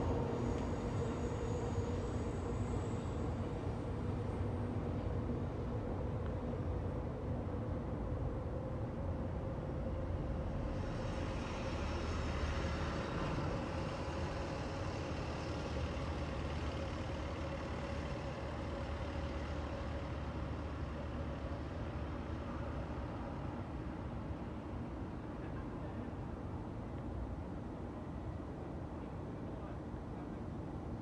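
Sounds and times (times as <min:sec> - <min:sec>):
faint constant hum: 0:00.0 - 0:31.0
traffic rumble: 0:00.0 - 0:31.0.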